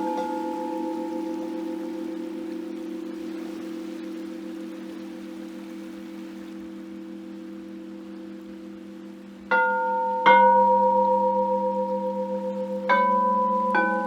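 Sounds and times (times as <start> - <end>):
crystal singing bowls ringing: 0.0 - 7.1, 9.5 - 14.0.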